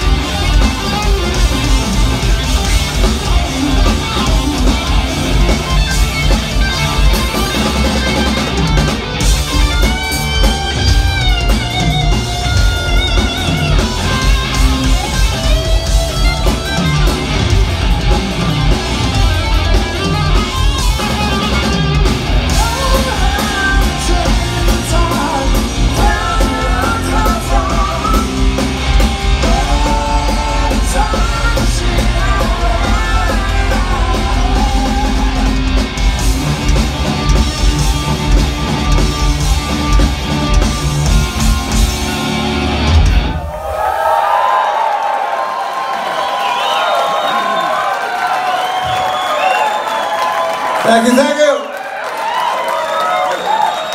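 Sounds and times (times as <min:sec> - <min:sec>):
electric bass: 0:00.0 - 0:43.4
electric guitar: 0:00.0 - 0:43.4
drum kit: 0:00.0 - 0:43.6.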